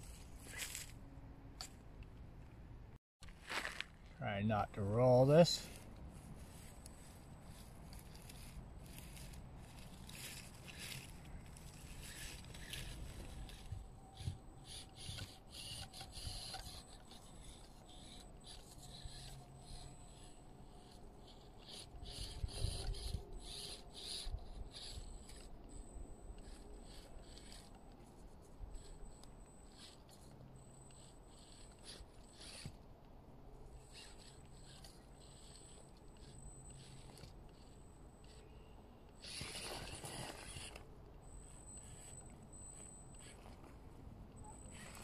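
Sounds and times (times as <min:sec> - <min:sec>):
toy car tyres scraping on bark: 0:00.0 - 0:01.0, 0:03.2 - 0:32.9, 0:33.6 - 0:45.0.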